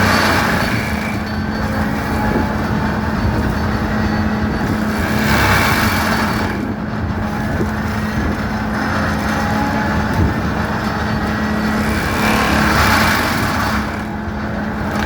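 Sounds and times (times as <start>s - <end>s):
mulcher grinding stump: 0.0s - 15.0s
skid steer engine running hard: 0.0s - 15.0s.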